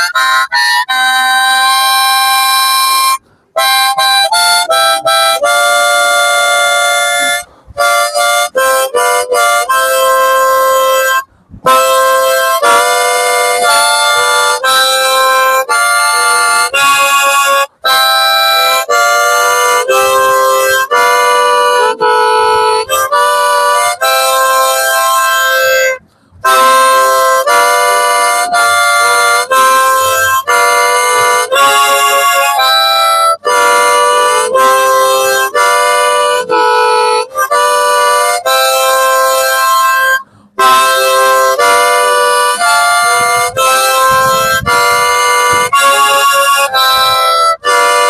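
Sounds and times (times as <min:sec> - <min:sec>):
harmonica melody: 0:00.0 - 0:48.0.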